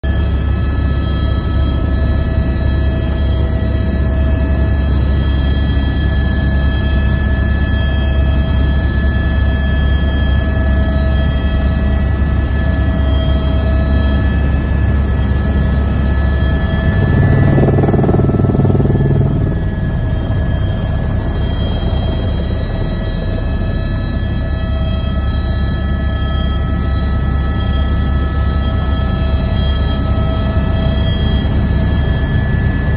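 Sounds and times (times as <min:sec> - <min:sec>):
helicopter rotor hum: 0:00.1 - 0:32.9
high turbine whine: 0:00.1 - 0:32.9.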